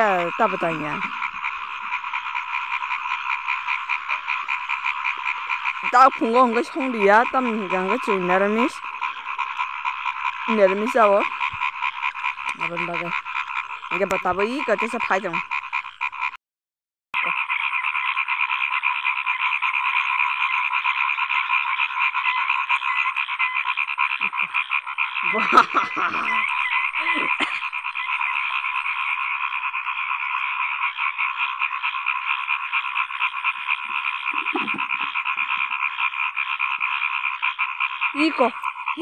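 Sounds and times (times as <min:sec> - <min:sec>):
frogs calling in chorus: 0:00.0 - 0:16.4, 0:17.2 - 0:39.0.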